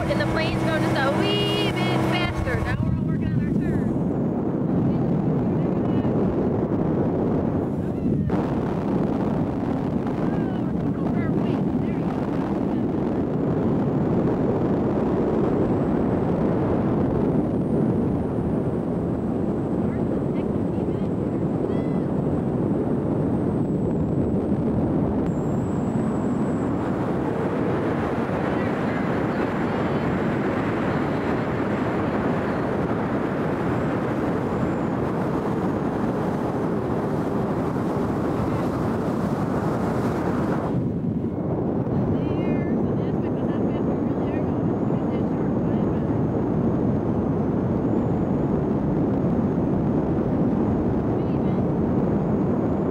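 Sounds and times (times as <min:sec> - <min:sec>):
motorboat running noise: 0:00.0 - 0:52.9
wind on microphone: 0:00.0 - 0:52.9.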